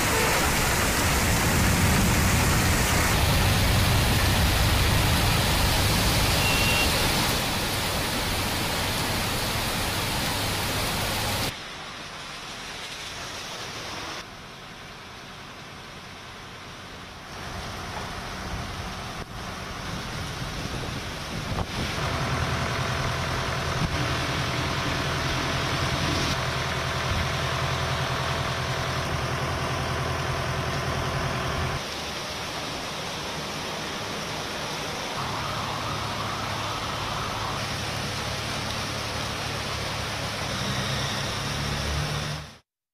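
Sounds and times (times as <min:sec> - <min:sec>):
heavy rain falling: 0:00.0 - 0:42.2.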